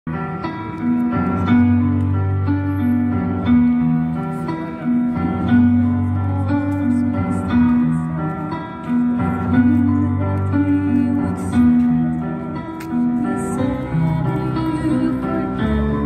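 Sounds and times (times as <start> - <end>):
slow instrumental music over loudspeakers: 0.2 - 16.0.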